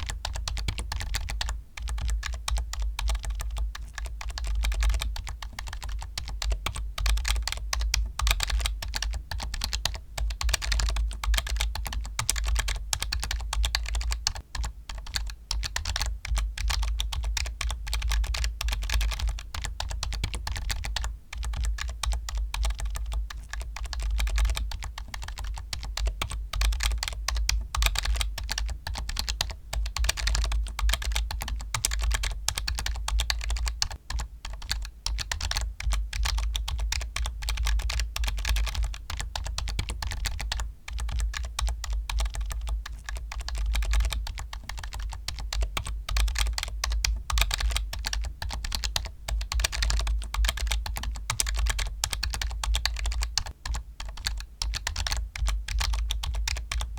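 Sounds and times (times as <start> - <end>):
fast keyboard typing: 0.0 - 56.9.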